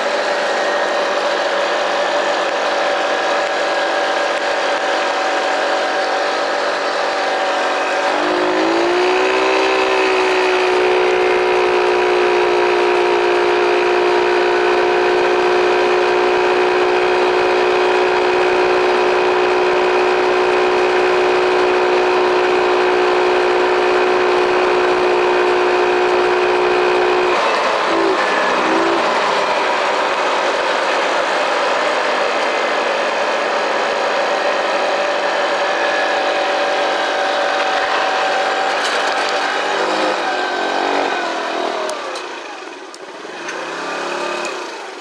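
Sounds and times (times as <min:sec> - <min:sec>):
mini bike engine running: 0:00.0 - 0:45.0.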